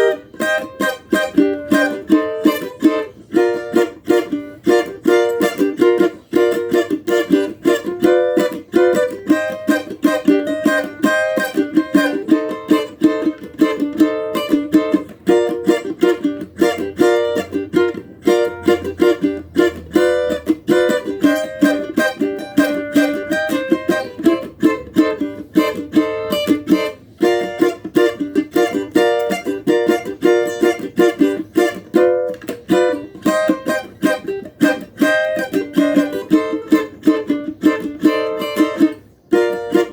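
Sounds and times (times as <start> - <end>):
cavaquinho strummed chords: 0.0 - 39.9.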